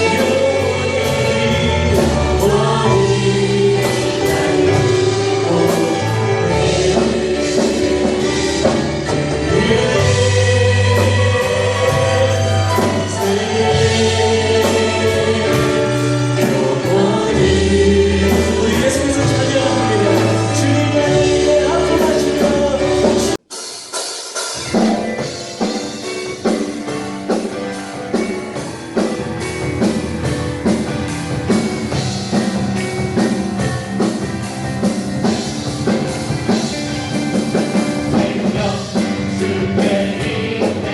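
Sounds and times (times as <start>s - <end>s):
choir singing with band: 0.0s - 23.4s, 24.4s - 40.9s
music with steady drum beat: 0.0s - 40.9s.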